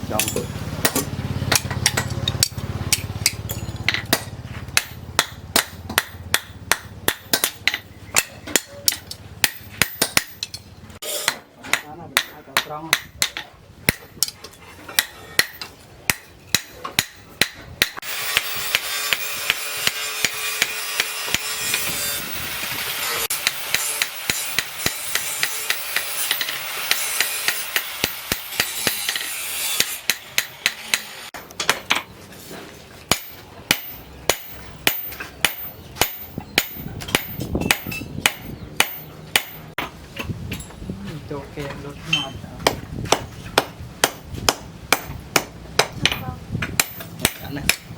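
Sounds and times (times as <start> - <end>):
hammer striking steel on anvil: 0.1 - 32.1, 33.1 - 39.9, 42.1 - 47.9.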